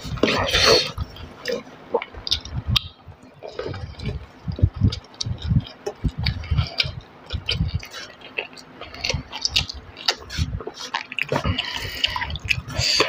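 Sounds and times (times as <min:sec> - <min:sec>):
chewing and wet mouth noises: 0:00.0 - 0:13.0.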